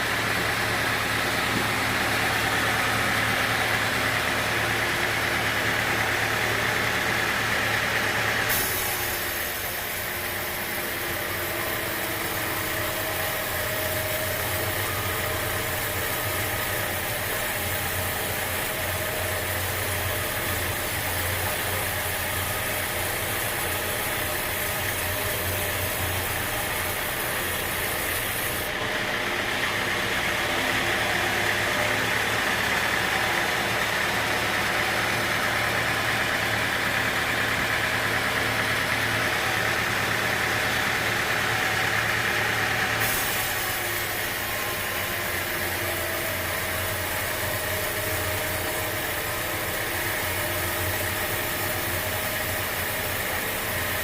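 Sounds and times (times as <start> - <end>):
machinery hissing noise: 0.0 - 28.8, 32.3 - 54.0
sawmill engine hum: 0.0 - 54.0.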